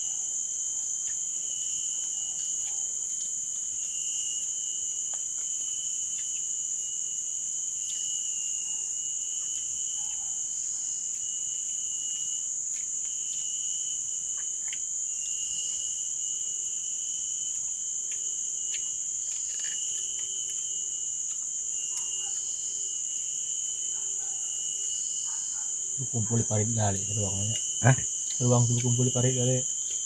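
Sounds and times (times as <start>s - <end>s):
crickets and insects trilling: 0.0s - 30.0s.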